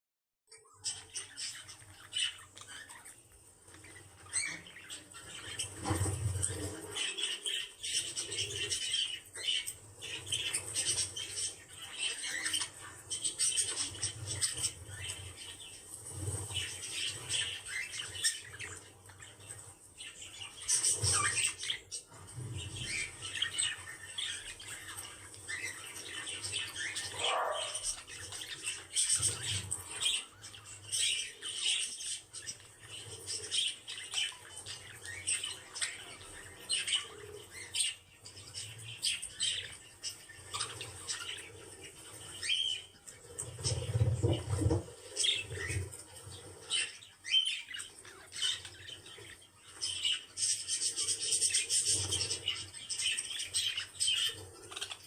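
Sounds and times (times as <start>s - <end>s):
pet birds chattering: 0.5s - 55.0s.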